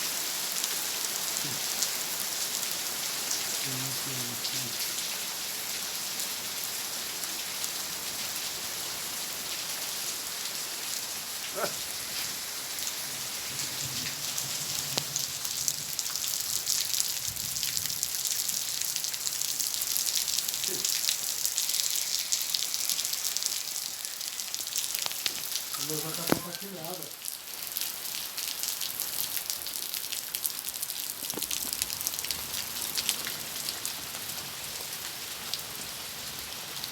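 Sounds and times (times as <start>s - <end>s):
rain pattering: 0.0s - 36.9s.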